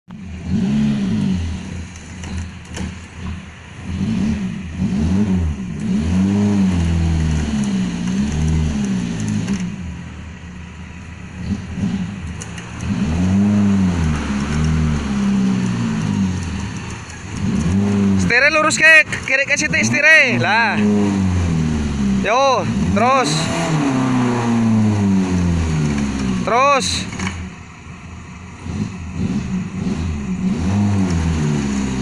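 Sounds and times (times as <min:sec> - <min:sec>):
car engine revving hard: 0:00.1 - 0:09.8, 0:11.4 - 0:27.4, 0:28.6 - 0:32.0.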